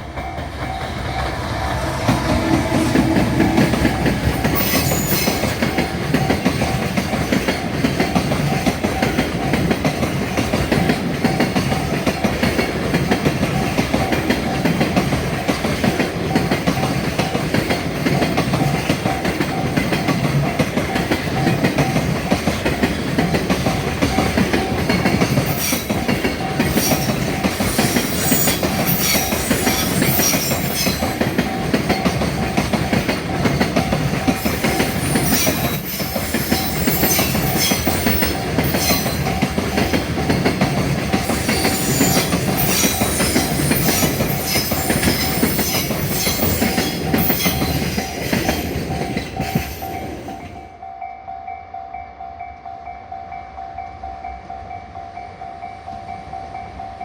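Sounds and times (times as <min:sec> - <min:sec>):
freight train rumbling past: 0:00.0 - 0:57.0
wheels clattering over rail joints: 0:02.0 - 0:49.9.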